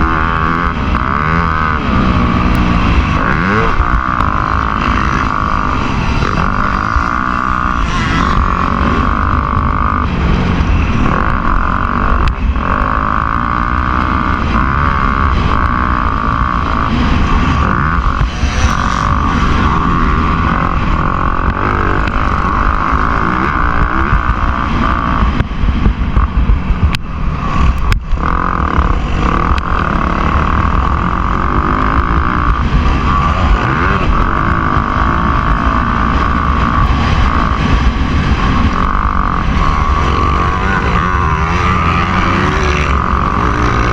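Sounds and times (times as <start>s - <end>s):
motocross bike engine running hard: 0.0s - 43.9s.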